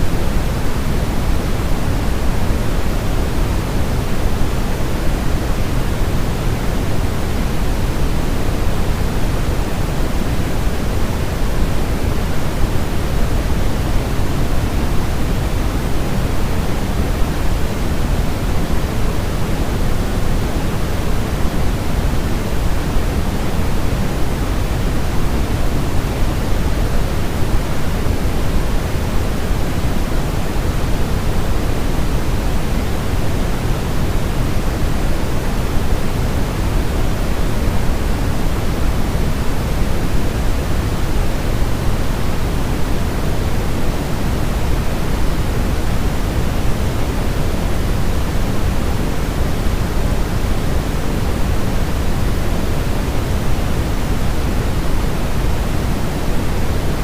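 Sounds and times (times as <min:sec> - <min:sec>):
pink noise hiss: 0:00.0 - 0:57.0.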